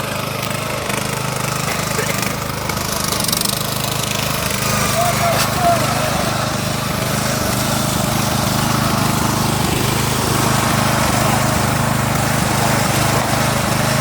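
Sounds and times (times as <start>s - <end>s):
lawn tractor engine running: 0.0s - 14.0s.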